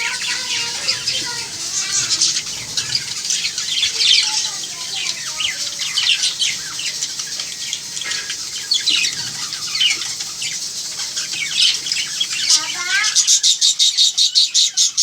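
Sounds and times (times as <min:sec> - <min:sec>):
parrots chirping: 0:00.0 - 0:15.0.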